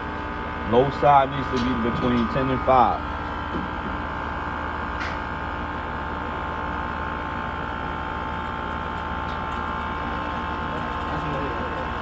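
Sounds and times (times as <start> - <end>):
air conditioning unit running: 0.0 - 12.0.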